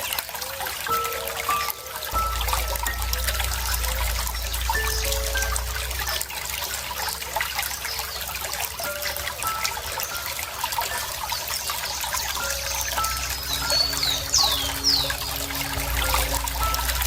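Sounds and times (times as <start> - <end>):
water trickling over stones: 0.0 - 17.0.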